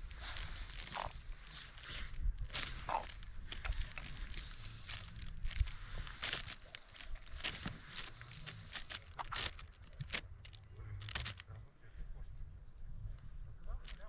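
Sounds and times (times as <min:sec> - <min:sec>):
crunching and rustling strokes: 0:00.0 - 0:11.6, 0:13.0 - 0:14.0.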